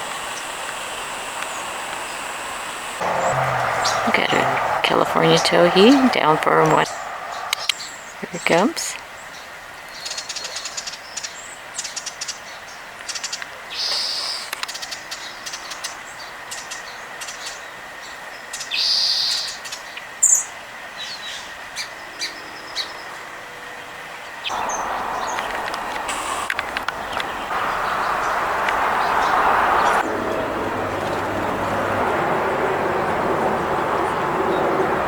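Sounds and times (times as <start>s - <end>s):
songbirds chirping: 0.0s - 20.0s, 21.0s - 31.8s.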